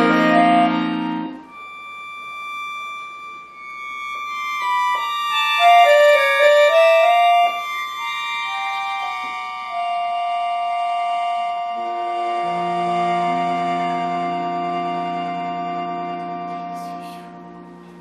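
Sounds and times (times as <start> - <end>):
button accordion playing chords: 0.0 - 18.0.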